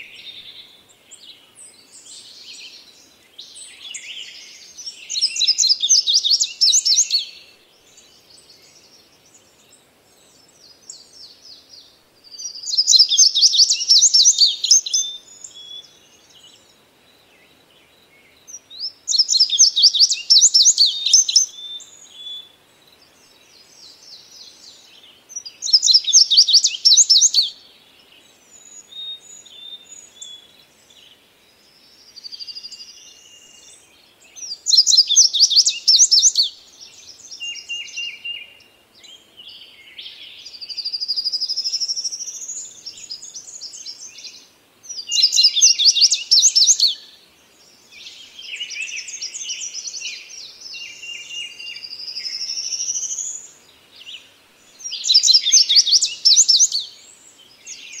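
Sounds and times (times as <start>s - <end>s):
bird singing high phrases: 0.0s - 16.7s, 17.3s - 58.0s
faint bird chirps: 0.0s - 58.0s.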